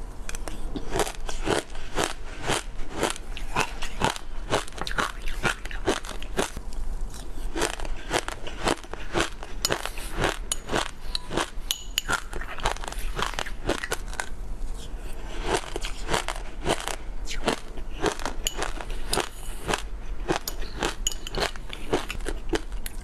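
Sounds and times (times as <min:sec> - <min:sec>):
chewing crunchy seeds: 0:00.3 - 0:23.0.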